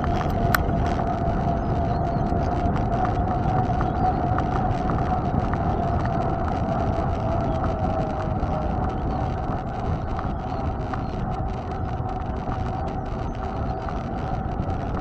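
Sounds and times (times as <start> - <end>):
bike tyre rumble: 0.0 - 15.0
wind buffeting microphone: 0.0 - 15.0.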